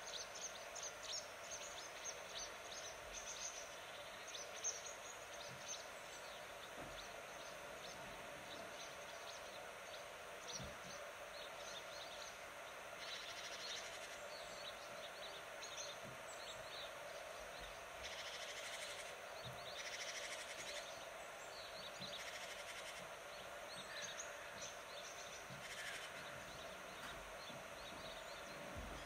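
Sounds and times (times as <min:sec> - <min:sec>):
small birds chirping and trilling: 0:00.0 - 0:29.0.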